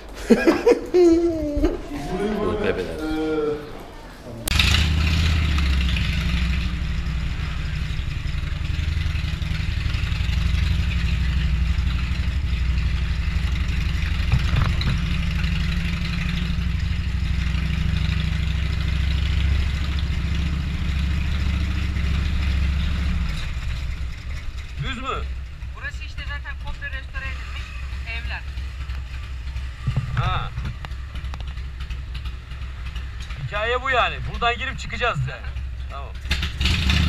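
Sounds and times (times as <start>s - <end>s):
motorcycle engine running: 4.5s - 37.0s.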